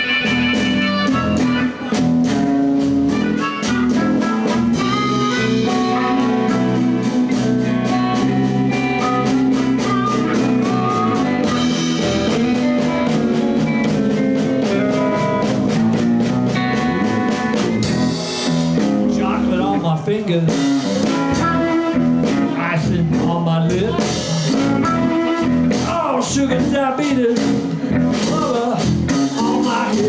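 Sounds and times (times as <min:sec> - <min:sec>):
bass: 0:00.0 - 0:30.0
blues guitar: 0:00.0 - 0:30.0
steady drum beat: 0:00.0 - 0:30.0.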